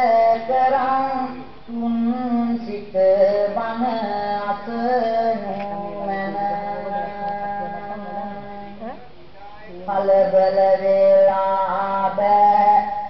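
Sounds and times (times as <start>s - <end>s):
woman singing slow melody: 0.0s - 8.9s, 9.8s - 13.0s.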